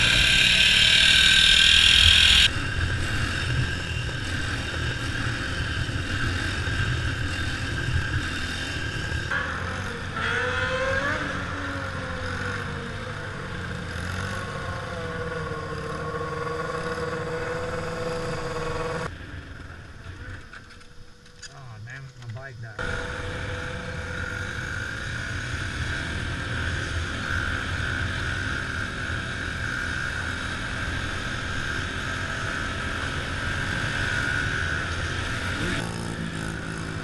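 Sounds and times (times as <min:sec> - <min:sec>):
mini-bike engines revving: 0:00.0 - 0:20.8, 0:22.8 - 0:37.0.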